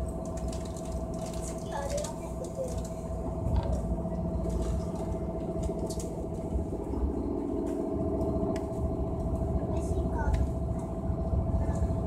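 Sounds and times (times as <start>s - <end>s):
constant hum: 0.0s - 12.0s
train rumble: 0.0s - 12.0s.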